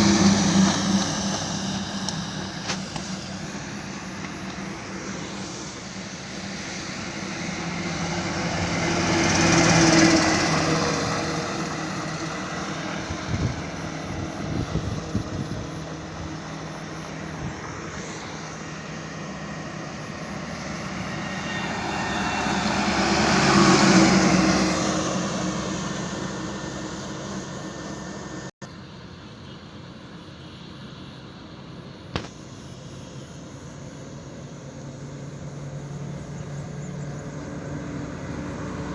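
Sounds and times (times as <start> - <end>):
steady engine hum: 0.0 - 38.9
vehicles passing by: 0.0 - 38.9.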